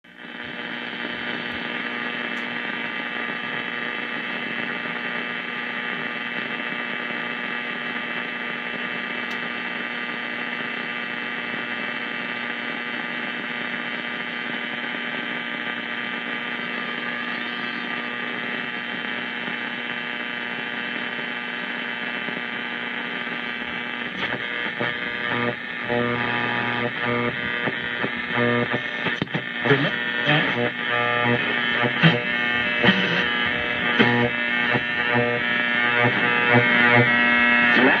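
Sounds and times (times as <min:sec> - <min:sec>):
radio hum and static: 0:00.0 - 0:38.0
radio broadcast fragments: 0:00.1 - 0:38.0.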